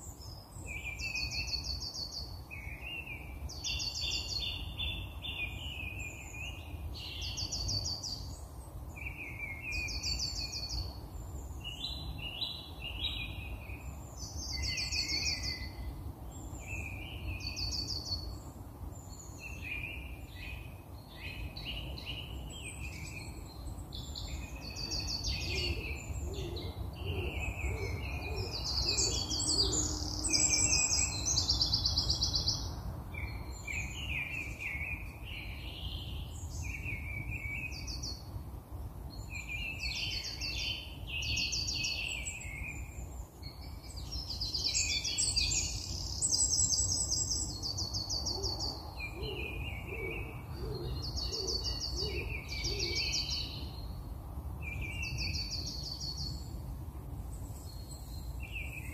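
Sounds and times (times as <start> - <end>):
wild birds chirping and trilling: 0.0 - 58.9.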